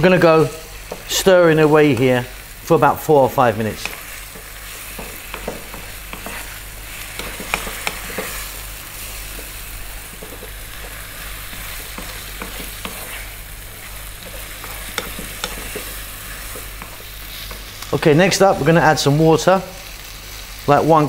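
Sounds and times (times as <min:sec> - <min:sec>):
wooden spatula scraping a pan: 0:00.0 - 0:02.5, 0:03.2 - 0:18.4
meat sizzling in a pan: 0:00.0 - 0:21.0.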